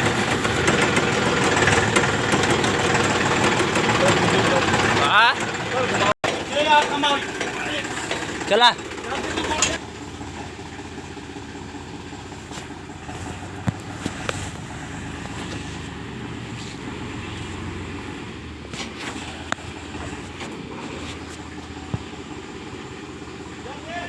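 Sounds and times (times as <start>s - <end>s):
tractor diesel engine idling: 0.0s - 24.0s.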